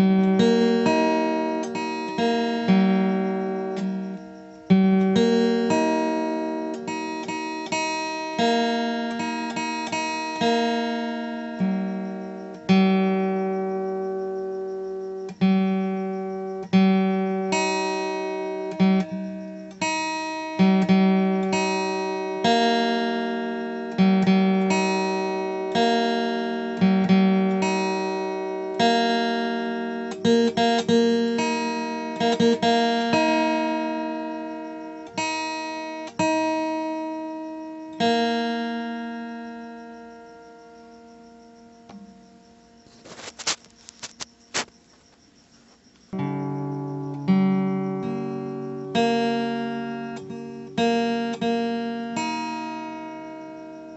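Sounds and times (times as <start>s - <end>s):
slow acoustic guitar piece: 0.0s - 53.9s.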